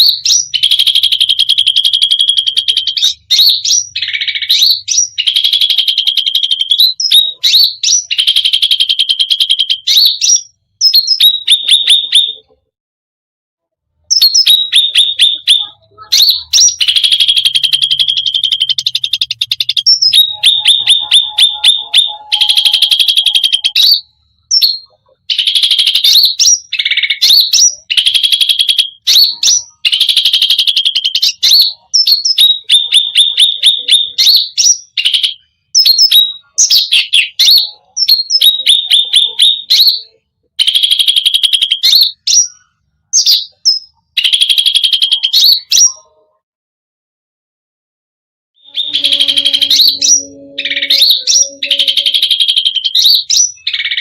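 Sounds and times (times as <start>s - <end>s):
bird singing a rattling trill: 0.0s - 12.5s, 14.1s - 46.3s, 48.6s - 54.0s.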